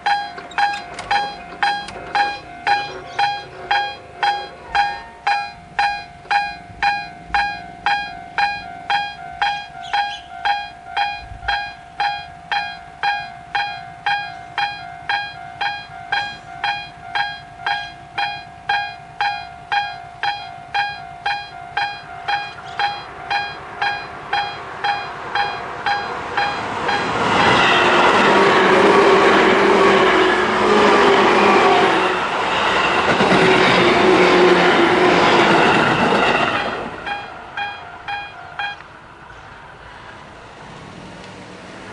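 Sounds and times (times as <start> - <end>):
level crossing alarm bell ringing: 0.0 - 30.5, 32.7 - 38.8
train wheels clattering on rails: 0.0 - 39.5.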